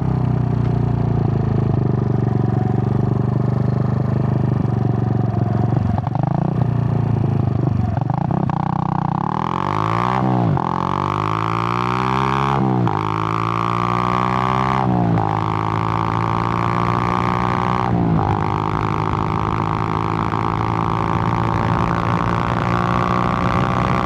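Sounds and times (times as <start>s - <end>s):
motorcycle engine running and revving: 0.0s - 24.0s.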